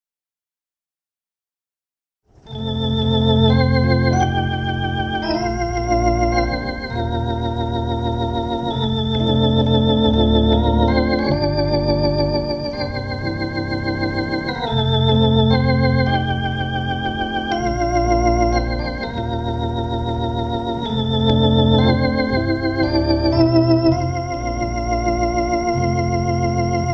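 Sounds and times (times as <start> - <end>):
organ chords with swirling tremolo: 2.3 - 26.9.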